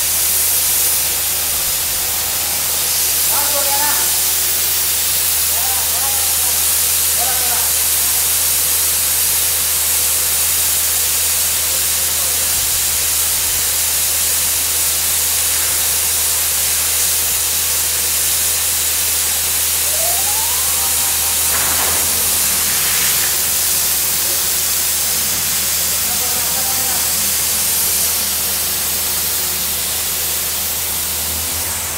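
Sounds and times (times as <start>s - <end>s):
compressed air blasting water: 0.0s - 31.9s.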